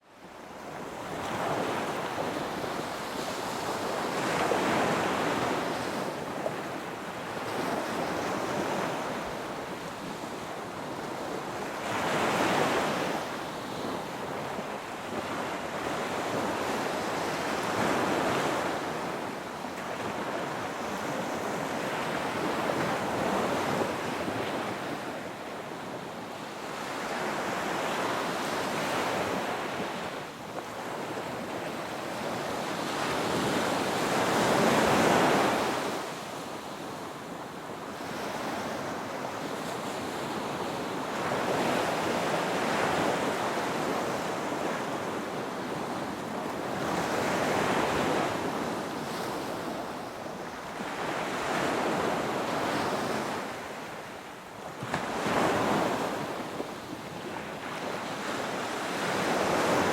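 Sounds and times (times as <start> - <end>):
ocean waves breaking on shore: 0.2 - 59.9.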